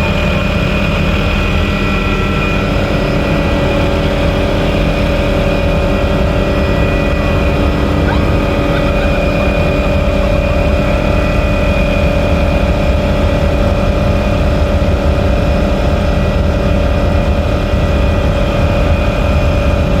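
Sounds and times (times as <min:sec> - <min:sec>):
helicopter engine whine: 0:00.0 - 0:20.0.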